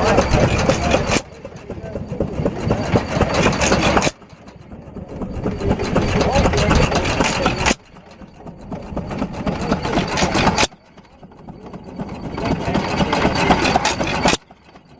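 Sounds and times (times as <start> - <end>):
stationary gas engines running: 0.0 - 14.9.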